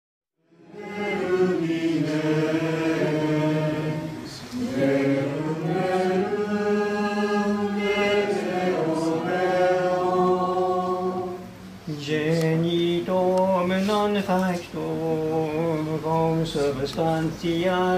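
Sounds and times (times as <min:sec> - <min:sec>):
congregation singing plainchant: 0:00.4 - 0:17.9.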